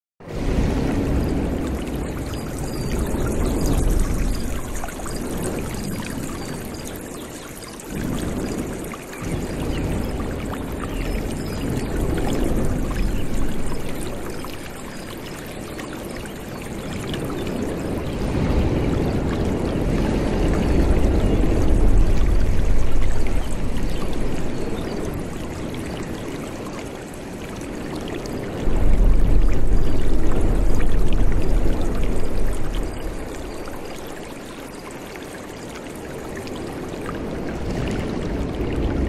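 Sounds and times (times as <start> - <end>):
stream water rushing: 0.2 - 39.0.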